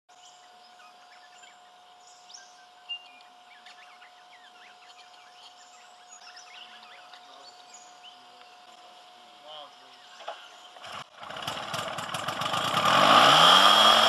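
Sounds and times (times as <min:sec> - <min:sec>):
birds chirping: 0:00.1 - 0:14.0.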